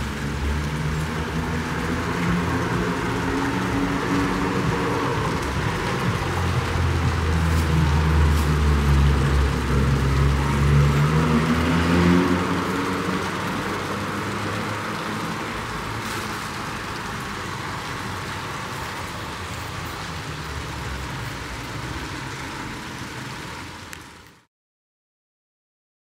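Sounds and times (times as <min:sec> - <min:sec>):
vehicle passing: 0:00.0 - 0:24.2
distant traffic hiss: 0:00.0 - 0:24.4.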